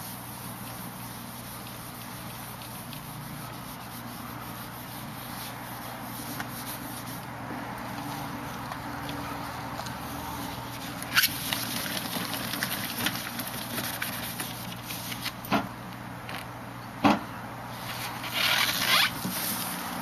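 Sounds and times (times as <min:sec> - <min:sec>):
hand rubbing on plastic: 0:00.0 - 0:15.4, 0:17.8 - 0:20.0.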